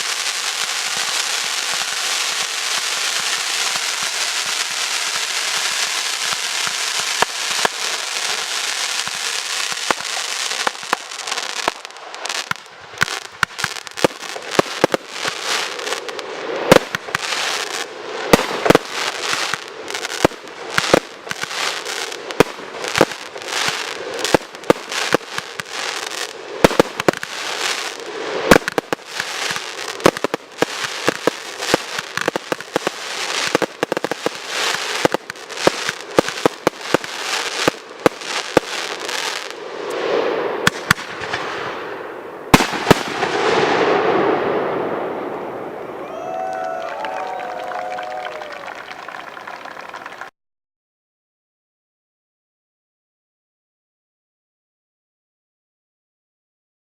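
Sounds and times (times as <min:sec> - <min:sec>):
fireworks crackling hiss: 0:00.0 - 0:46.0.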